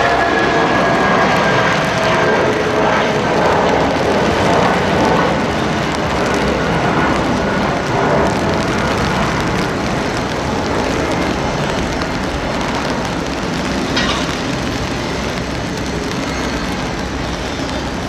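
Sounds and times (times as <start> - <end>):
jet engine roar with high whine: 0.0 - 18.0.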